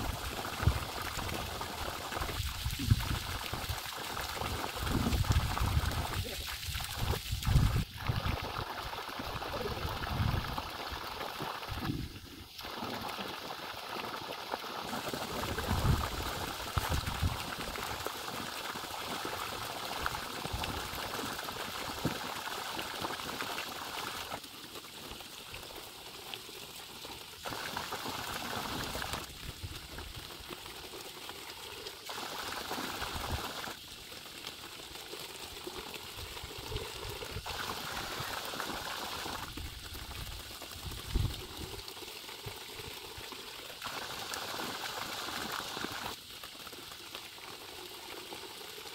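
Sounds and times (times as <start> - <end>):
water splashing into bucket: 0.0 - 25.3, 27.4 - 47.2
water gushing from pipe: 0.0 - 48.9.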